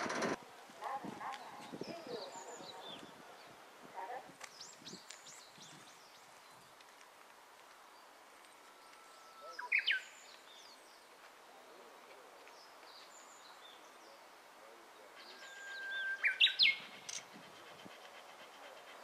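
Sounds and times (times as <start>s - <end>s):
faint outdoor hiss: 0.0s - 19.0s
songbird singing: 0.8s - 19.0s.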